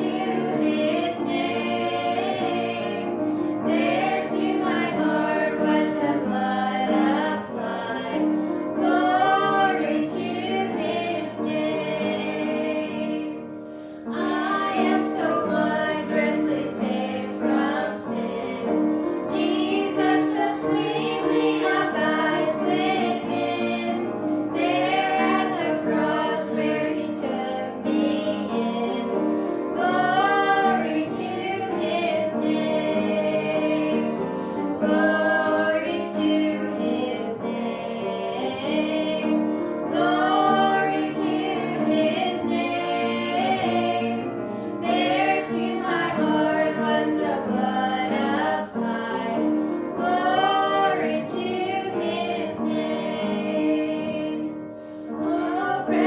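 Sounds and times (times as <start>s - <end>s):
family singing a hymn: 0.0s - 56.0s.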